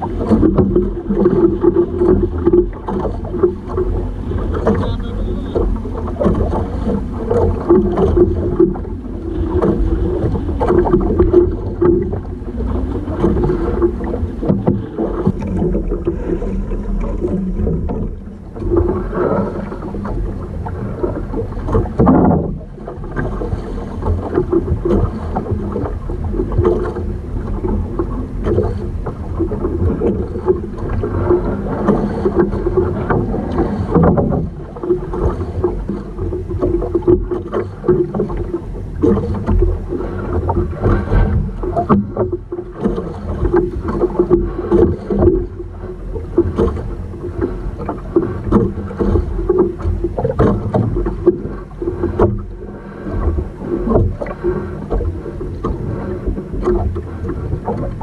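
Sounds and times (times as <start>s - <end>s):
water slapping boat hull: 0.0s - 58.0s
wind buffeting microphone: 0.0s - 58.0s.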